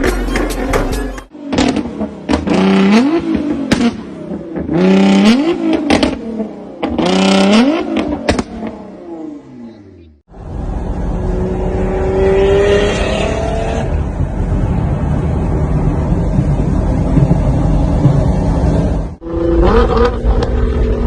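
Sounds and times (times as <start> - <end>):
car engine revving: 1.4 - 21.0.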